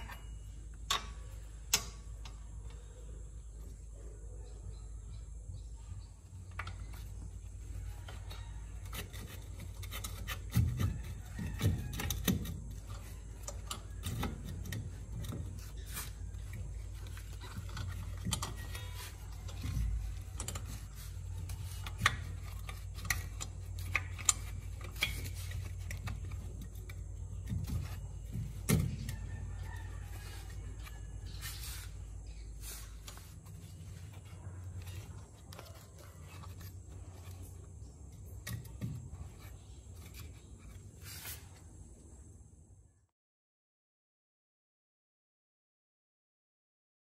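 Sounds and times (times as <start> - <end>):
low steady hum: 0.0 - 43.1.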